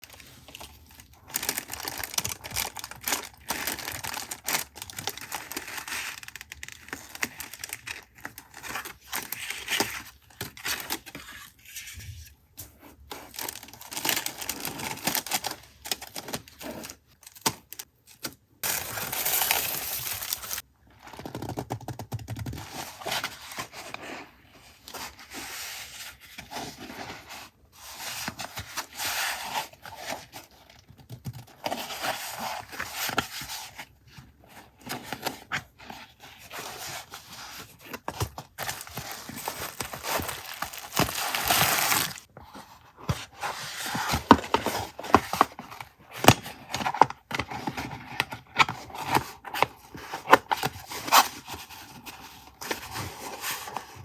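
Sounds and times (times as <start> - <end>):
paper rustling and crinkling: 0.0 - 20.7, 22.4 - 54.0.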